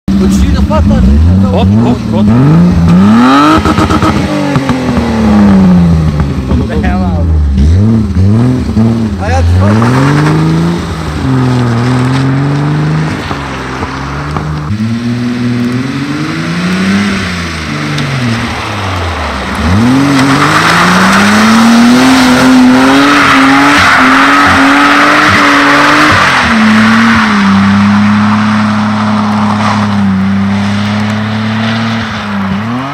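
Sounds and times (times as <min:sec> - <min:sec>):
car engine revving hard: 0:00.1 - 0:32.9.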